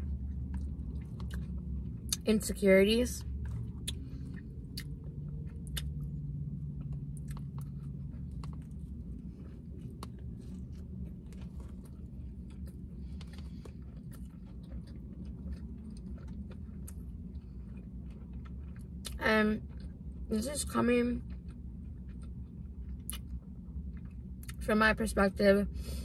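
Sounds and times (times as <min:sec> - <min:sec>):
chewing and lip-smacking: 0:00.0 - 0:24.7
low steady hum: 0:00.0 - 0:26.0.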